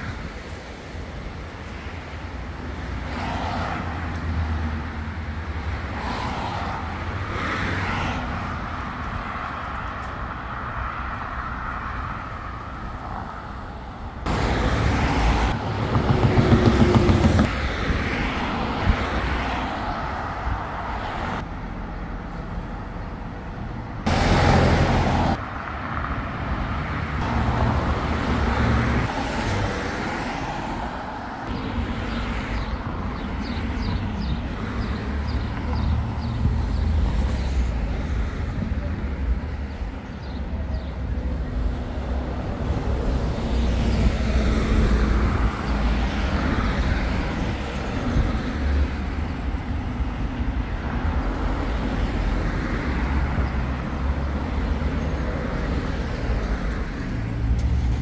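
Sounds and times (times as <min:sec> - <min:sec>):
road traffic with cars passing: 0:00.0 - 0:58.0.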